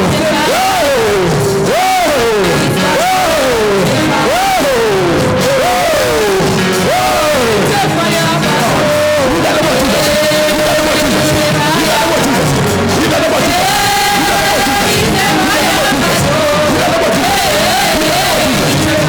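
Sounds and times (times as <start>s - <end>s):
band playing worship music: 0.0s - 19.0s
person singing wailing phrases: 0.0s - 19.0s.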